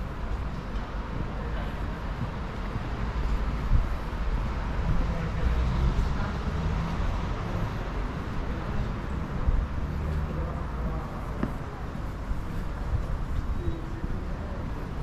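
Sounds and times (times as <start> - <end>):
faint voices of passers-by: 0.0 - 15.0
traffic rumble: 0.0 - 15.0.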